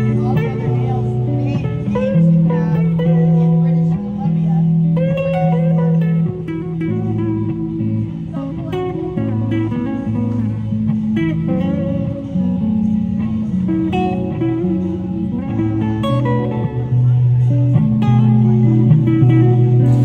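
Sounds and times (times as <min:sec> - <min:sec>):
electric guitar playing solo: 0:00.0 - 0:20.0.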